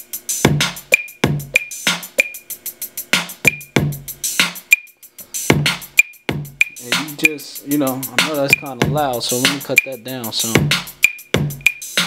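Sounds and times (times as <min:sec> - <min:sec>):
hip-hop drum loop: 0:00.0 - 0:12.0.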